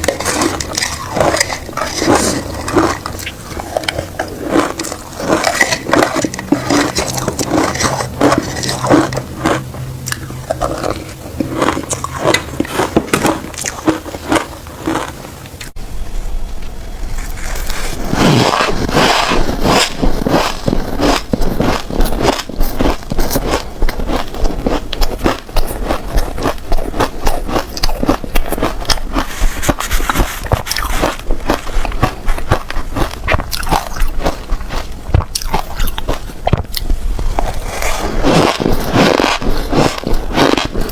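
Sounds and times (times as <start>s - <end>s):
crunching shaved ice: 0.0s - 15.8s, 17.2s - 40.9s
steady low hum: 0.0s - 40.9s.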